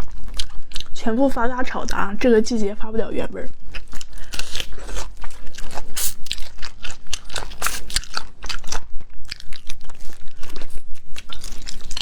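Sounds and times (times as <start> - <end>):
crunchy chewing of shrimp: 0.0 - 2.3, 3.2 - 12.0.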